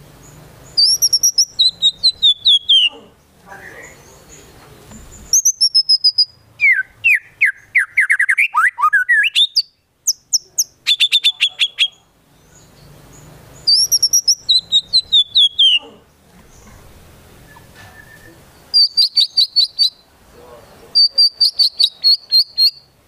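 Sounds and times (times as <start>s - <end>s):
bird singing varied phrases: 0.0s - 23.0s.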